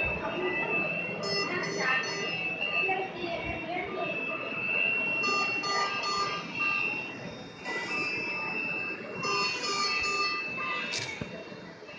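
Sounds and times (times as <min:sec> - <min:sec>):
medical alarm short high beeps: 0:00.0 - 0:11.7
steady high tone: 0:00.0 - 0:11.9.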